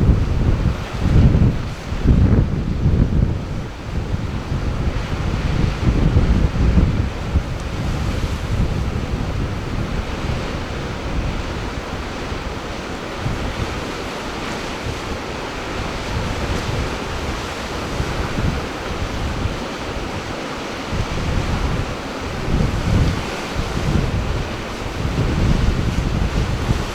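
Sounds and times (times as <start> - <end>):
sea surf rushing: 0.0 - 26.9
wind buffeting microphone: 0.0 - 26.9.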